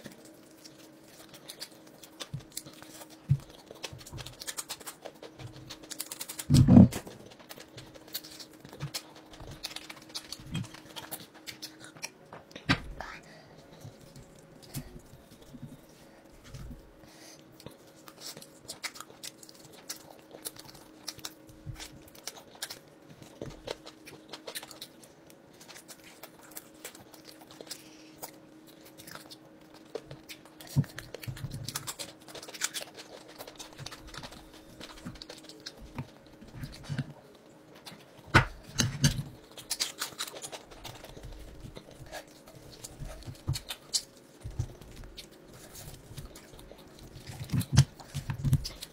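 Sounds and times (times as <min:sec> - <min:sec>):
man chewing: 0:00.0 - 0:12.7, 0:13.3 - 0:48.9
faint steady hum: 0:00.0 - 0:48.9.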